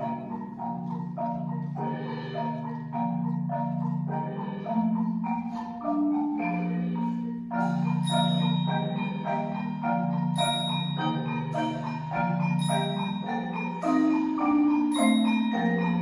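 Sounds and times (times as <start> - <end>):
percussion ensemble with marimba: 0.0 - 16.0.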